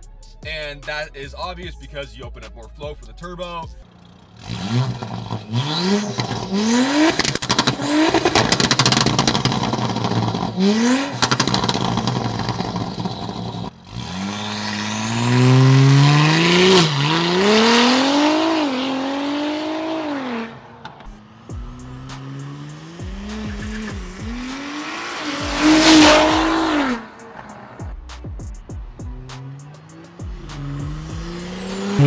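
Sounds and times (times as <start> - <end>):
exhaust crackling: 3.1 - 32.0
car engine revving hard: 3.9 - 27.9, 29.0 - 32.0.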